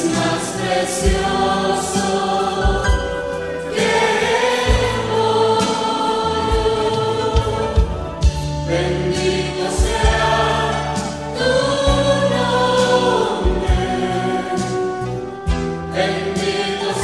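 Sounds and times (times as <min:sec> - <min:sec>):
backing band: 0:00.0 - 0:17.0
choir singing praise song: 0:00.0 - 0:17.0.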